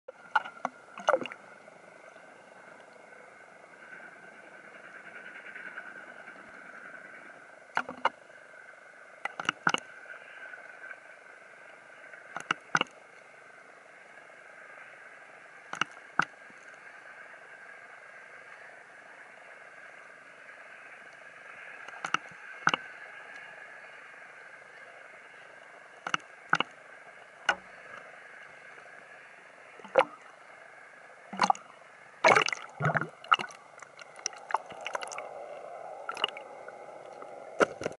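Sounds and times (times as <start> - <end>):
steady hiss: 0.6 - 37.9.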